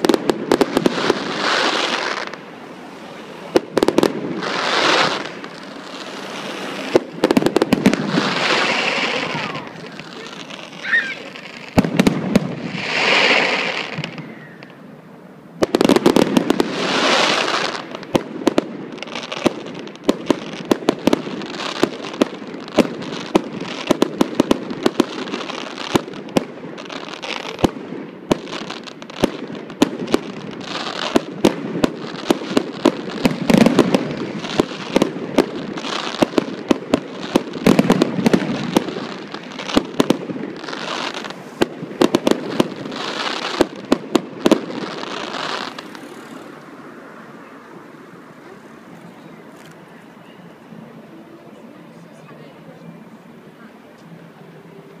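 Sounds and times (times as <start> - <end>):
fireworks hissing rushes: 0.0 - 49.8
fireworks bangs and crackles: 0.0 - 55.0.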